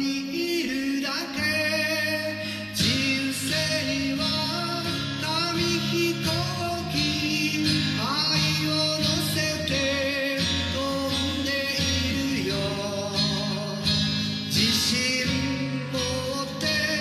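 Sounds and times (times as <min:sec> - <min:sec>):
acoustic guitar: 0:00.0 - 0:17.0
man singing pop ballad: 0:00.0 - 0:17.0.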